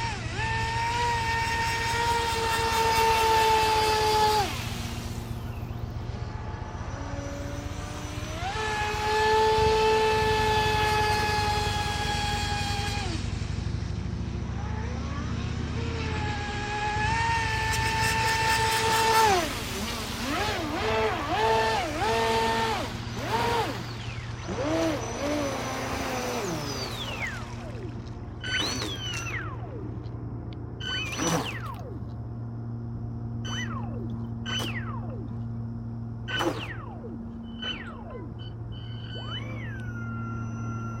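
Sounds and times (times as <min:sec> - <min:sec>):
rc boat motor whining: 0:00.0 - 0:41.0.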